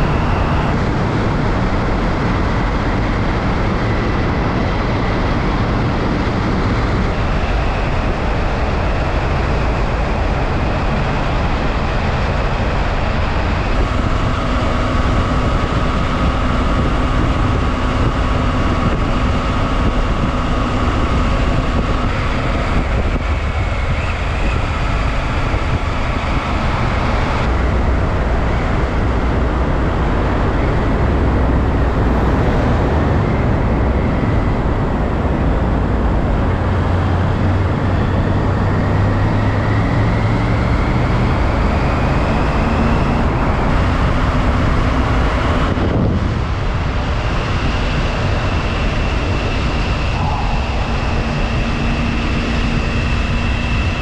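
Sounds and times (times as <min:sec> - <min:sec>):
motorcycle engine drone: 0:00.0 - 0:54.0
wind and road noise: 0:00.0 - 0:54.0.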